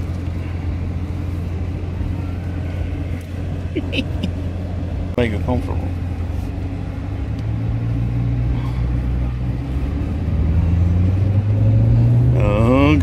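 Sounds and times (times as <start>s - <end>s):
car engine drone from inside: 0.0s - 13.0s.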